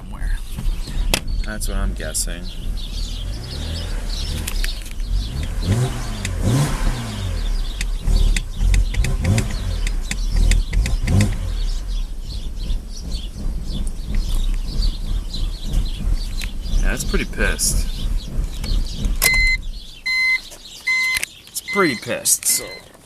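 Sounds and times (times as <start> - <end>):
car engine idling roughly: 0.0 - 21.0.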